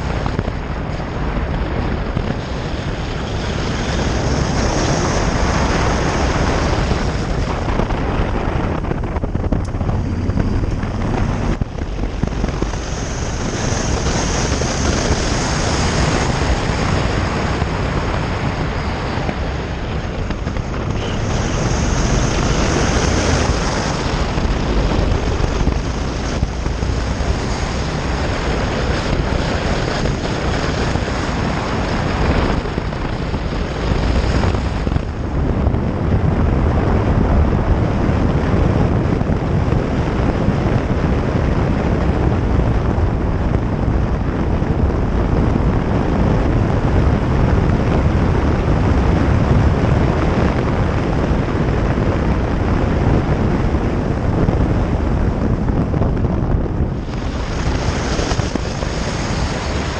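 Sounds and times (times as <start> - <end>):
motorcycle tyre and engine noise: 0.0 - 59.9
wind rush on microphone: 0.0 - 59.9.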